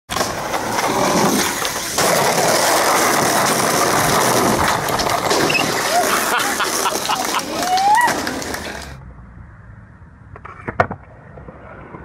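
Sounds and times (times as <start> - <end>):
skateboard wheels rolling: 0.1 - 9.0, 10.3 - 12.0.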